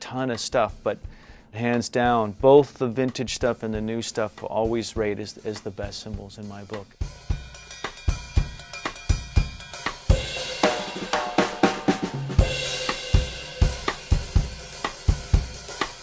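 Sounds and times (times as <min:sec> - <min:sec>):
drum kit kick and snare groove: 0:00.0 - 0:16.0.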